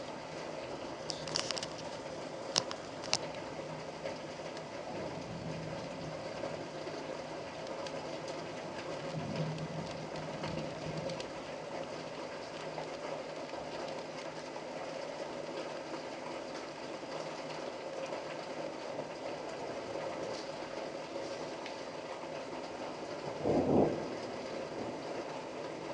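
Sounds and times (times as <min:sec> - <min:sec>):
small ticking drips: 0:00.0 - 0:25.9
steady rain hiss: 0:00.0 - 0:25.9.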